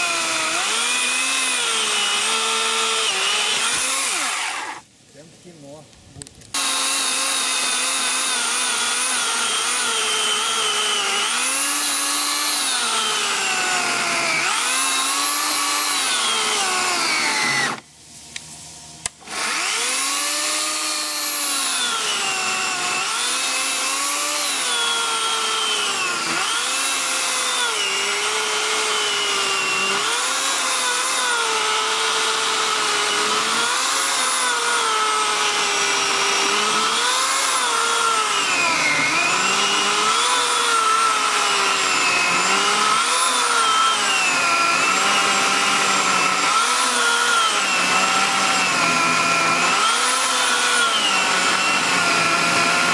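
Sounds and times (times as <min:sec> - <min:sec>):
electric chainsaw cutting log: 0:00.0 - 0:04.9, 0:06.5 - 0:52.9.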